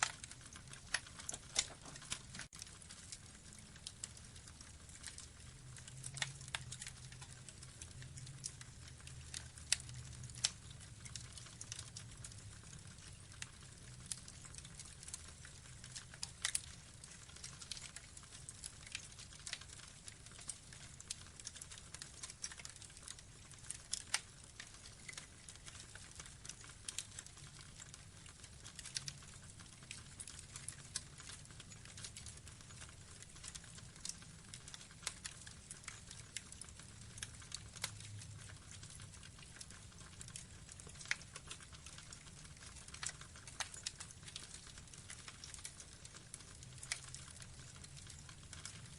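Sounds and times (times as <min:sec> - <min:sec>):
burning logs crackling: 0:00.0 - 0:48.9.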